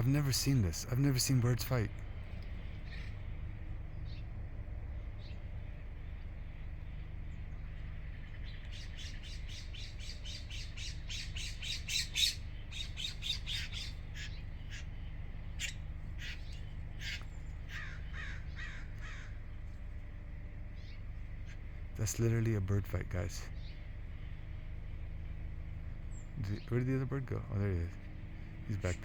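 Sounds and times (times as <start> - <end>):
birds calling harshly: 0.0 - 29.0
steady low hum: 0.0 - 29.0.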